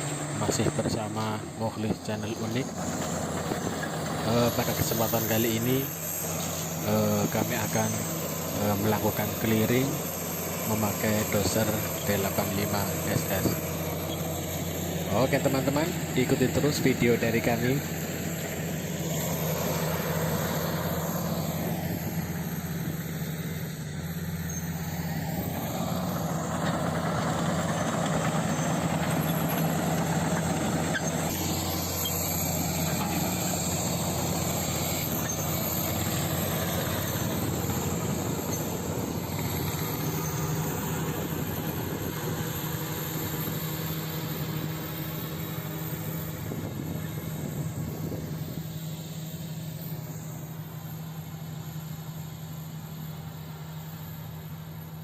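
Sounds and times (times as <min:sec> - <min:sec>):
bulldozer diesel engine running: 0:00.0 - 0:55.0
machine noise: 0:00.0 - 0:55.0.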